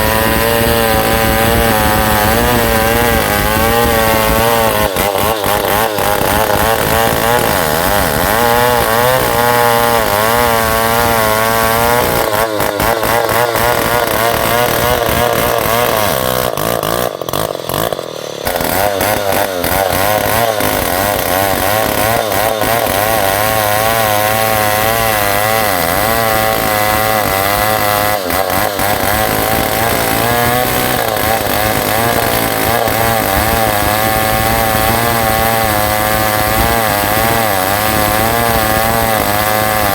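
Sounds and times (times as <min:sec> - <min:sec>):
chainsaw ripping wood: 0:00.0 - 0:39.9.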